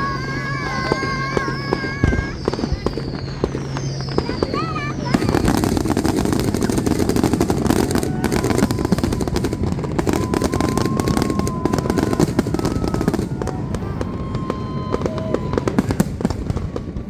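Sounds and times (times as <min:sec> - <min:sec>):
faint wavering whistle: 0:00.0 - 0:16.0
fireworks crackling and popping: 0:00.0 - 0:17.0.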